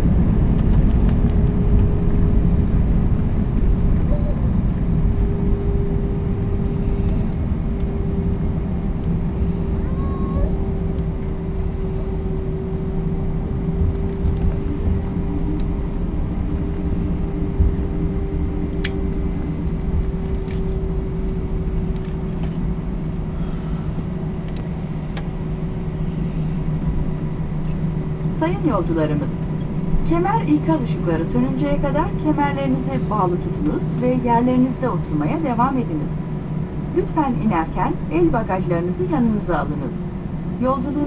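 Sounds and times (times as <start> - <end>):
airliner cabin engine rumble: 0.0 - 41.0
constant droning hum: 0.0 - 41.0.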